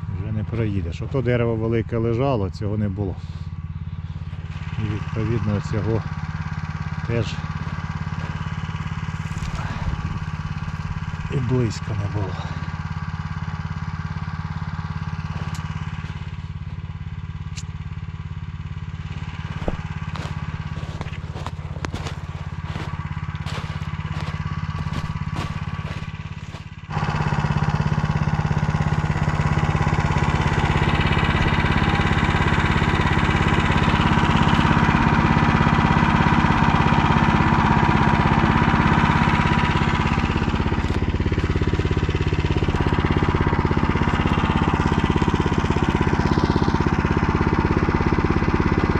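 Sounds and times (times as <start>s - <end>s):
engine idling and revving: 0.0s - 48.9s.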